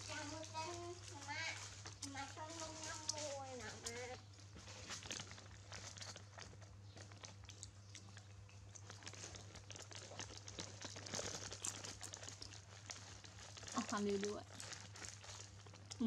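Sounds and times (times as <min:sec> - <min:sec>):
monkey eating fruit with crackling: 0:00.0 - 0:16.0.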